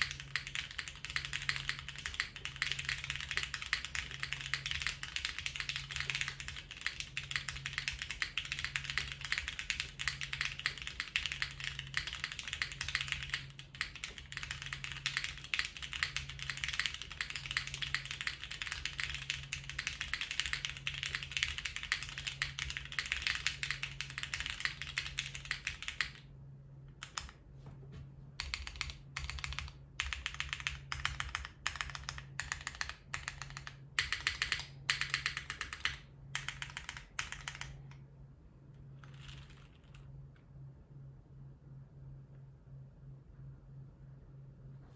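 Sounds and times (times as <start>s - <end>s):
typing on mechanical keyboard: 0.0s - 26.2s, 27.0s - 27.4s, 28.4s - 38.0s.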